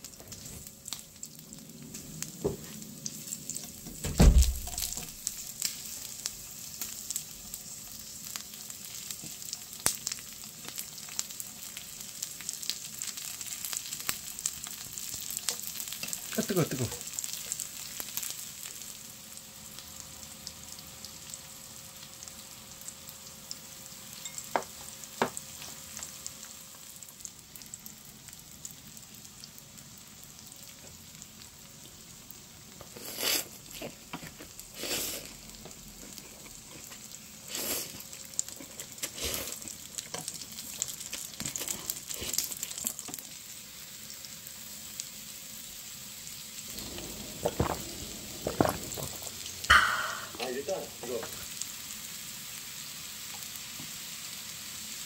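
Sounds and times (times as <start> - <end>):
meat sizzling on grill plate: 0.0 - 55.0.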